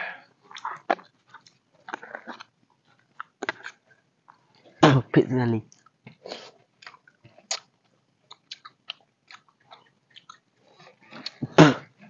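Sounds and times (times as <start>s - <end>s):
chewing and lip smacks: 0.5s - 4.6s, 5.7s - 11.4s.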